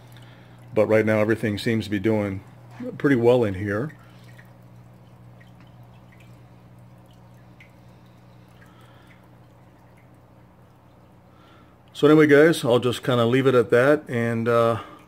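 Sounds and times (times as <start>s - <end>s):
water spilling into tank: 0.0s - 13.4s
faint water drips: 0.0s - 15.0s
low pump hum: 0.0s - 15.0s.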